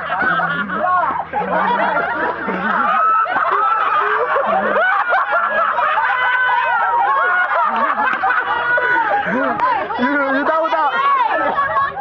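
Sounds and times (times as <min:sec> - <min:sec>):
people laughing loudly: 0:00.0 - 0:12.0.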